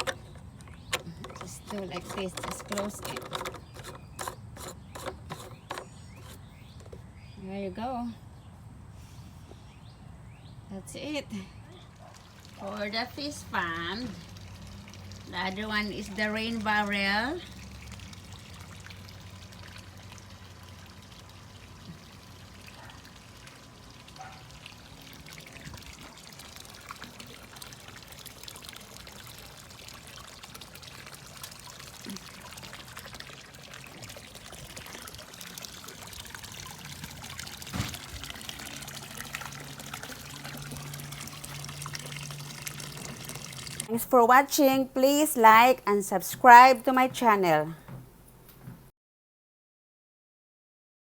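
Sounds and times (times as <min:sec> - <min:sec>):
water pouring and trickling: 0:00.0 - 0:07.1, 0:11.8 - 0:47.6.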